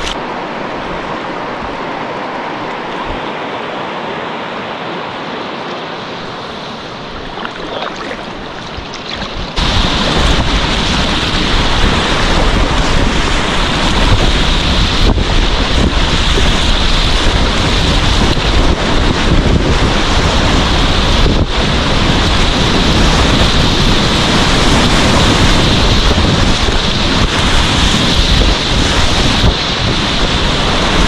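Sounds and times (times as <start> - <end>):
whitewater rapids rushing: 0.0 - 31.0
wind buffeting microphone: 5.2 - 31.0.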